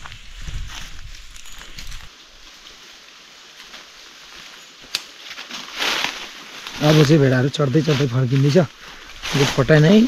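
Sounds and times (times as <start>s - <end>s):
footsteps crunching on dry leaves: 0.0s - 10.0s.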